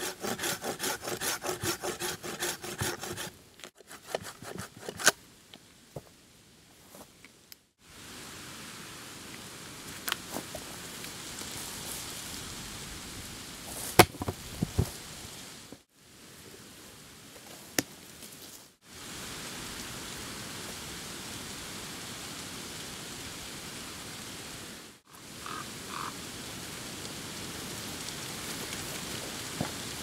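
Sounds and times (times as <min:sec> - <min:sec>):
rain-like outdoor hiss: 0:05.0 - 0:30.0.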